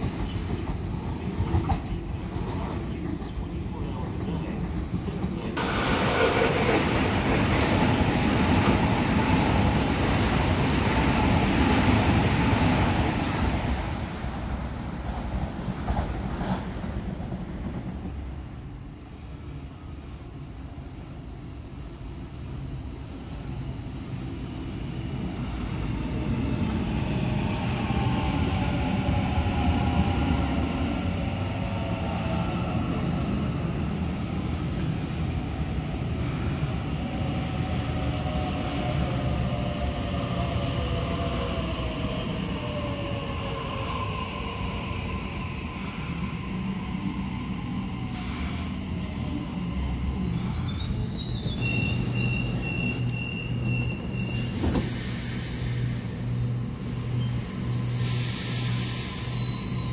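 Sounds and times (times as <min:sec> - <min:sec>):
train rumbling past: 0:00.0 - 0:59.9.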